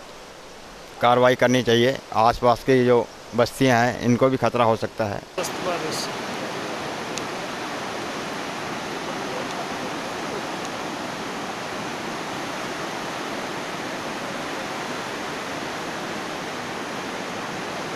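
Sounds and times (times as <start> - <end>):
flooded river rushing: 0.0 - 17.9.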